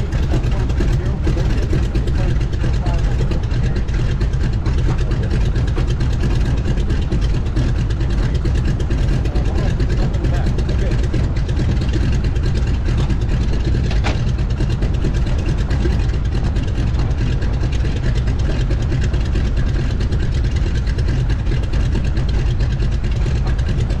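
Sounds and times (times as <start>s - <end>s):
aircraft radial engine running: 0.0s - 24.0s.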